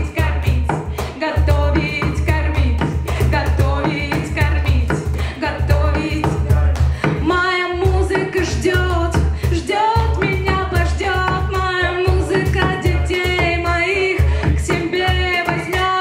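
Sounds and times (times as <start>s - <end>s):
percussion beat: 0.0s - 16.0s
plucked double bass: 0.0s - 16.0s
woman singing: 0.0s - 16.0s.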